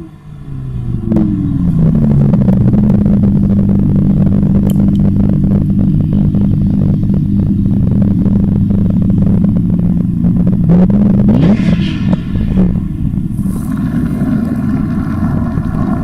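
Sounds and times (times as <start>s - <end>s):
car engine running and revving: 0.0s - 16.0s.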